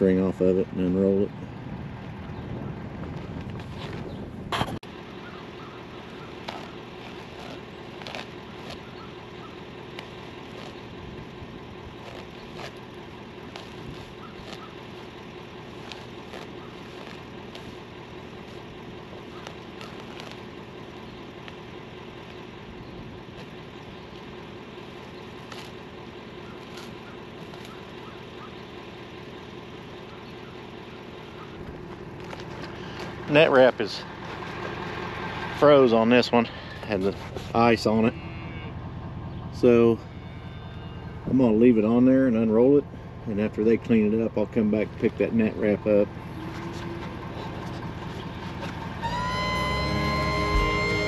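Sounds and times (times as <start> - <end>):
pickup truck engine idling: 0.0 - 51.0.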